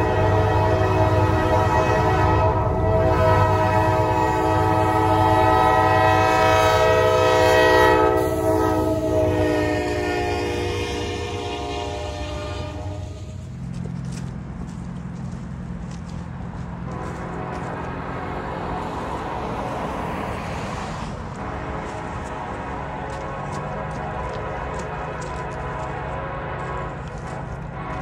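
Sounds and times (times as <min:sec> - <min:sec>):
locomotive air horn blasts: 0:00.0 - 0:13.5, 0:16.8 - 0:19.9, 0:21.3 - 0:28.0
locomotive engine rumble: 0:00.0 - 0:28.0.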